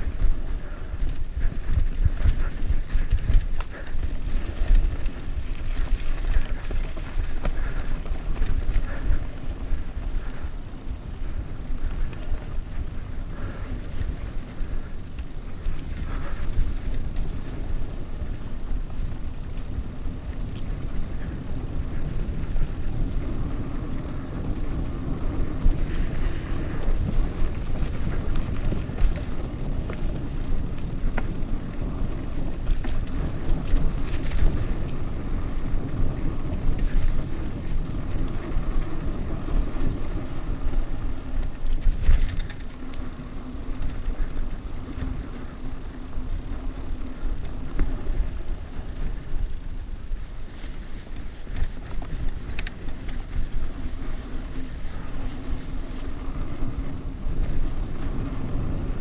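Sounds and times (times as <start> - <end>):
bike clicks and rattles: 0.0 - 59.0
wind buffeting microphone: 0.0 - 59.0.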